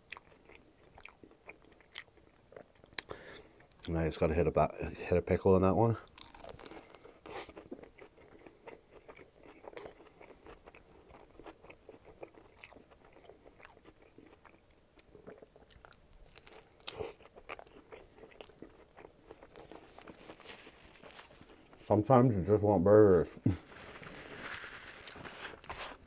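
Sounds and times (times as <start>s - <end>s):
person chewing a burger: 0.0s - 3.9s, 6.0s - 21.9s, 23.4s - 26.0s.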